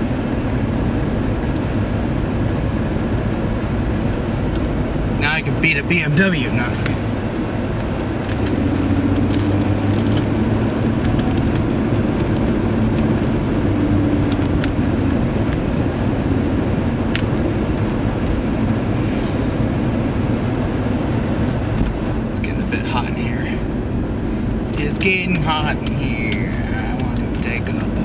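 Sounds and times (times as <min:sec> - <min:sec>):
car engine from inside cabin: 0:00.0 - 0:28.0
road noise: 0:00.0 - 0:28.0.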